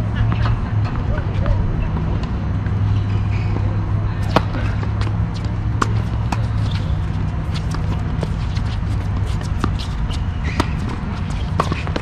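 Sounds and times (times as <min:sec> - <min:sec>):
steady low hum: 0:00.0 - 0:12.0
balls bouncing on hard court: 0:00.2 - 0:12.0
tennis balls struck by rackets: 0:00.2 - 0:12.0.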